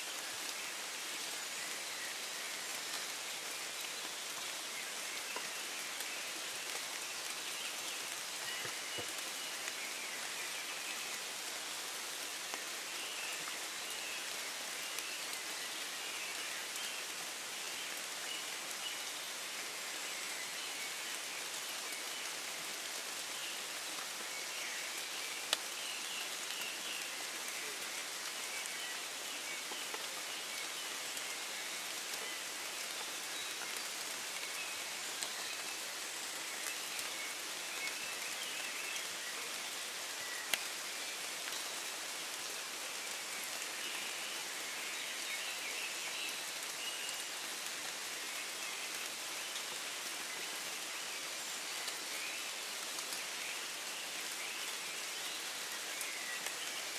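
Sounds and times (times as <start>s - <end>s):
gentle rain in woods: 0.0s - 56.9s.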